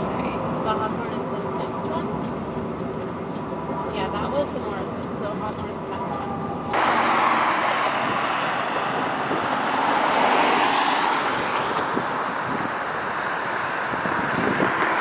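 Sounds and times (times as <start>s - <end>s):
cars passing on a bridge: 0.0s - 15.0s
wind on microphone: 0.0s - 15.0s.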